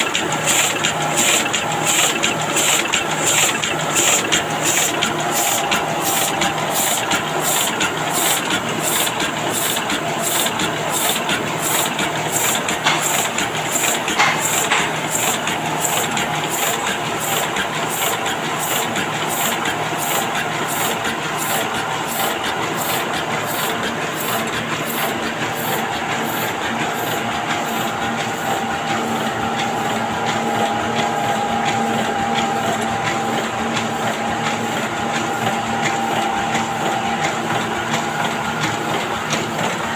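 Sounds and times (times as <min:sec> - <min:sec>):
printing press clattering: 0:00.0 - 0:39.9.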